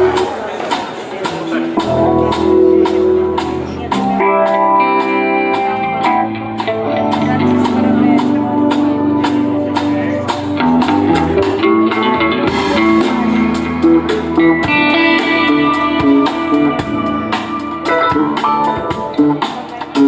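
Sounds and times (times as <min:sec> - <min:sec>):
drum kit beat: 0:00.0 - 0:20.0
electric guitar: 0:01.3 - 0:20.0.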